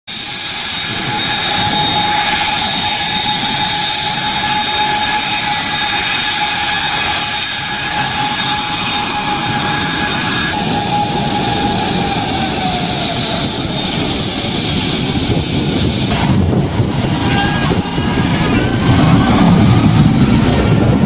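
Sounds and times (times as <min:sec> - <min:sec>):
jet engine rushing noise: 0:00.1 - 0:21.0
jet engines whining: 0:00.1 - 0:21.0.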